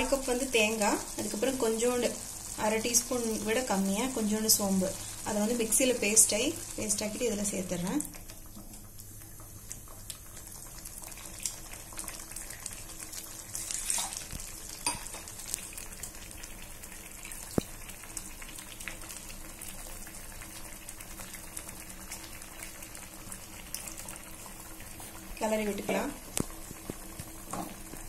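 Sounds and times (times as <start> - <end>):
gravy simmering in a pan: 0.0 - 28.0.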